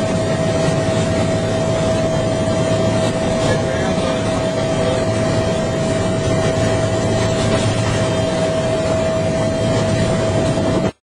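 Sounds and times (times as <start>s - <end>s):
helicopter engine and rotor rumble: 0.0s - 11.0s
helicopter turbine whine: 0.0s - 11.0s.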